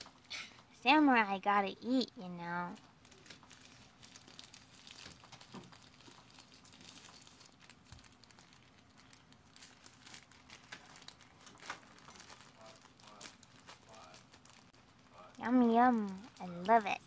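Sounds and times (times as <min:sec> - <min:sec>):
plastic wrapper crinkling: 0:02.8 - 0:17.0.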